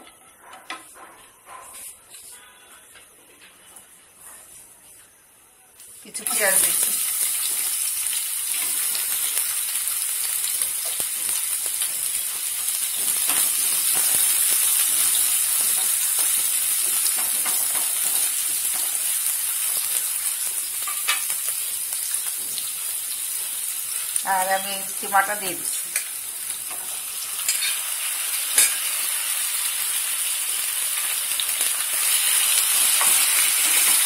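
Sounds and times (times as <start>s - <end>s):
onions sizzling in hot oil: 5.8s - 34.0s.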